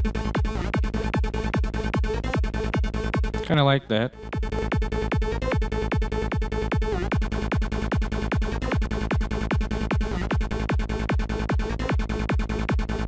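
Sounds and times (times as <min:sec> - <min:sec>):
kick drum: 0:00.0 - 0:03.4, 0:04.3 - 0:13.0
rolling bass line: 0:00.0 - 0:13.0.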